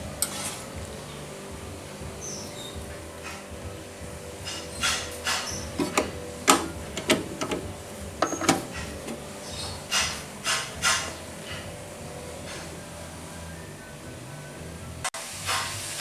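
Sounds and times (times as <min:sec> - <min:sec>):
faint steady hum: 0:00.0 - 0:15.5.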